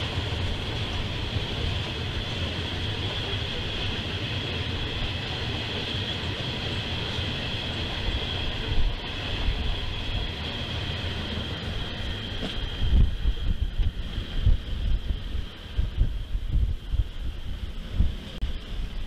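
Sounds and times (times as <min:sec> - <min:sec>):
freight cars rumbling on rails: 0:00.0 - 0:19.0.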